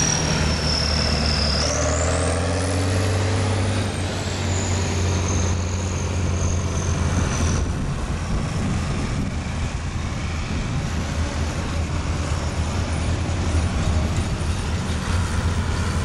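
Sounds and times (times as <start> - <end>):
tractor engines droning: 0.0 - 16.0.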